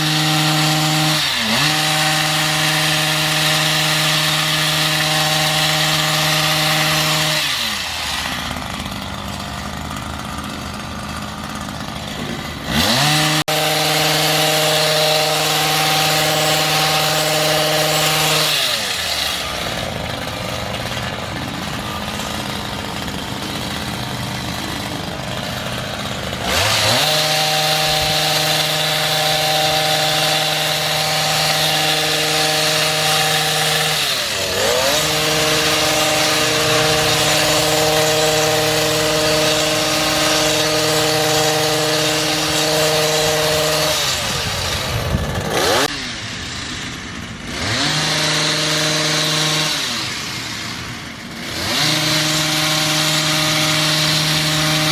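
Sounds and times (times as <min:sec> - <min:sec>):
small engine revving and idling: 0:00.0 - 0:54.9.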